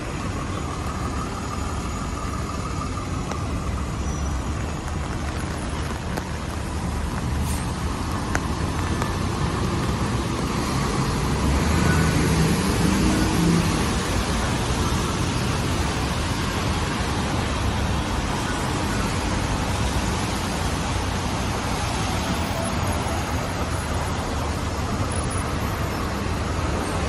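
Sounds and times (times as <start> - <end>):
tyres hissing on wet road: 0.0 - 27.0.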